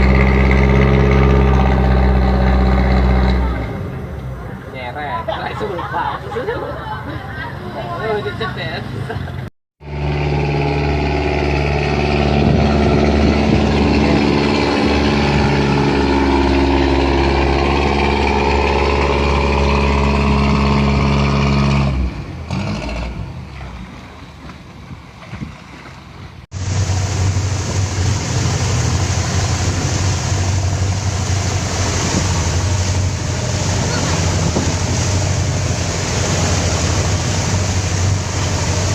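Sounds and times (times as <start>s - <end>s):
boat diesel engine droning: 0.0s - 38.9s
water noise: 0.0s - 38.9s
wind: 0.0s - 38.9s.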